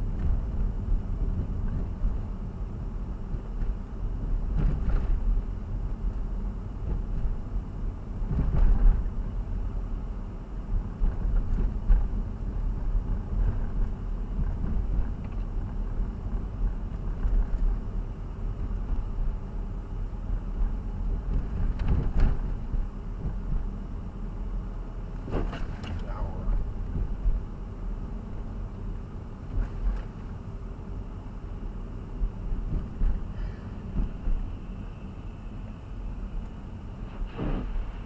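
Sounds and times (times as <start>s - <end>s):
moving vehicle rumble: 0.0s - 38.0s.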